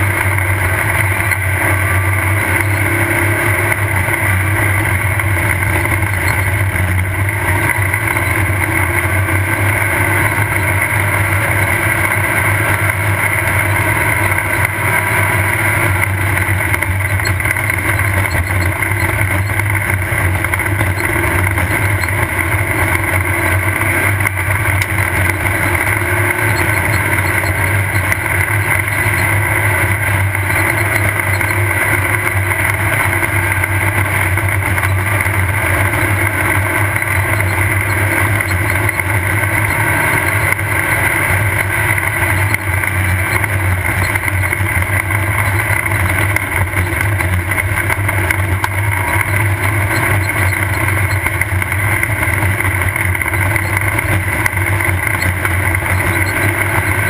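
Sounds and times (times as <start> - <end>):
race car engine drone: 0.0 - 57.0.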